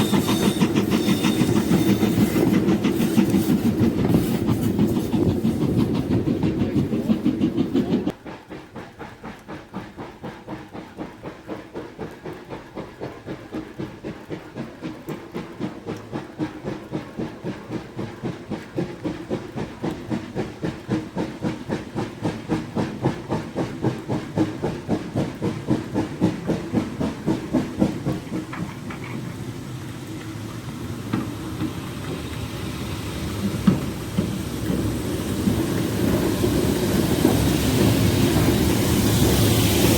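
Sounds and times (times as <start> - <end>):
steam locomotive chuffing: 0.0 - 39.9.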